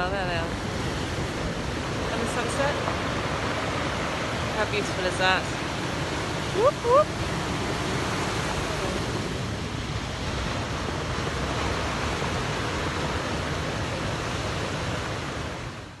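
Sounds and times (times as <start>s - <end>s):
ocean surf breaking on beach: 0.0s - 16.0s.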